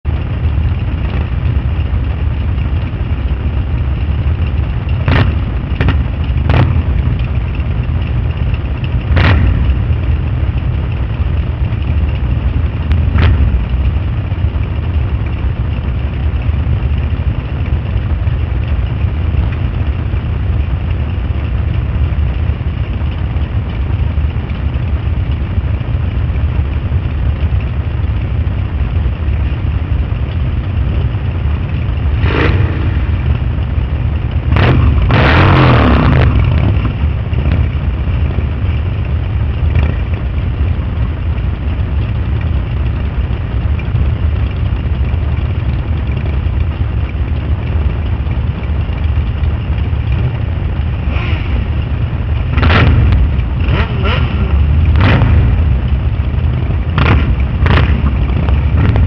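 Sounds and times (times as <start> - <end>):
motorcycle engines idling: 0.0 - 59.0.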